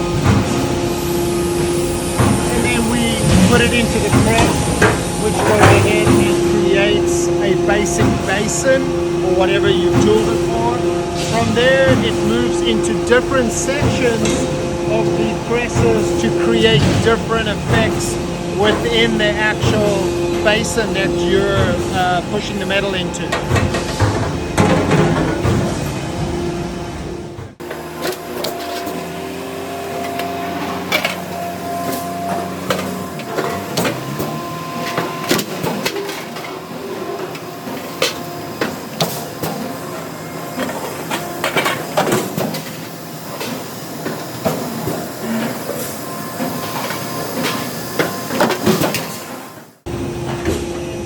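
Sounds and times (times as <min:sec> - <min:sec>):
steady machine noise: 0:00.0 - 0:51.0.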